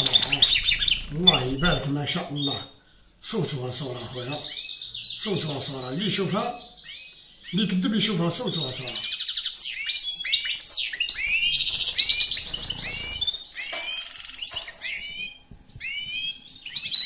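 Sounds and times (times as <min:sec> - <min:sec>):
finch singing: 0:00.0 - 0:17.0.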